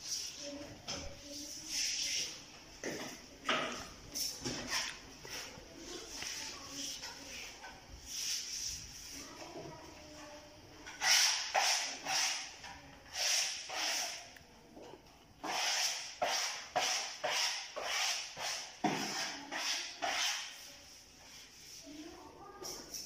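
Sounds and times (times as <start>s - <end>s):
wallpaper rubbing strokes: 0.0s - 2.6s, 4.1s - 9.6s, 10.9s - 14.3s, 15.4s - 23.0s.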